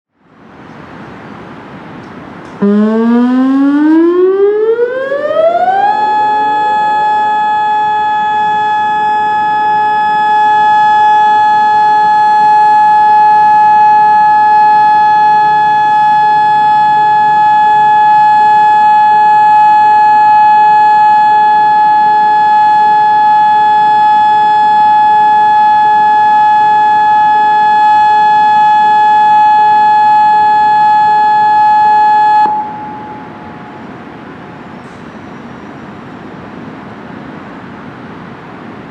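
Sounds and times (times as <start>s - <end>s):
electronic siren tone: 2.6s - 34.1s.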